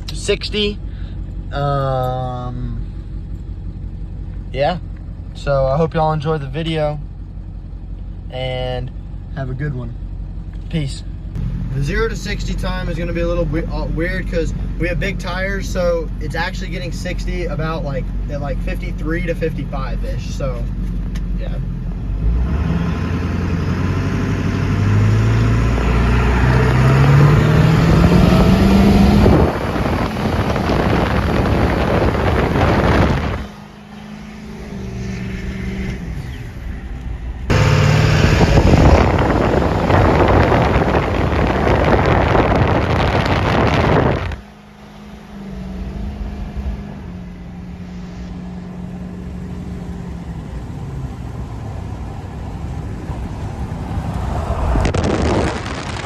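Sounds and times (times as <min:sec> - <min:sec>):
diesel truck engine accelerating: 0:00.0 - 0:56.0.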